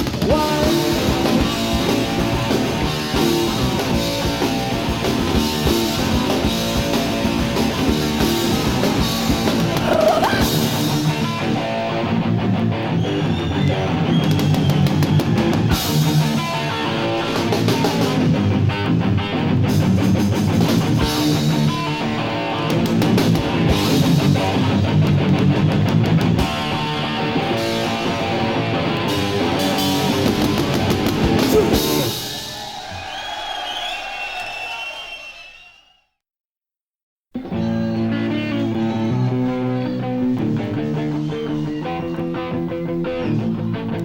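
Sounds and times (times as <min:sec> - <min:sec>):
strummed electric guitar: 0:00.0 - 0:32.3, 0:37.4 - 0:44.0
punk rock band playing: 0:00.0 - 0:33.2, 0:37.4 - 0:44.0.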